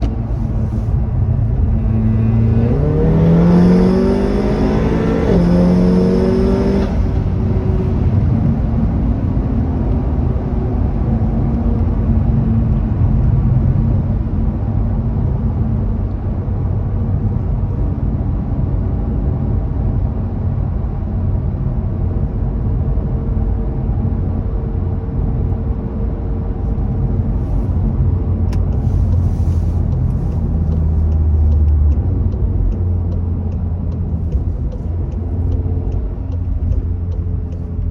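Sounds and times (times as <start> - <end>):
car engine revving and idling: 0.0 - 23.1, 23.8 - 37.9.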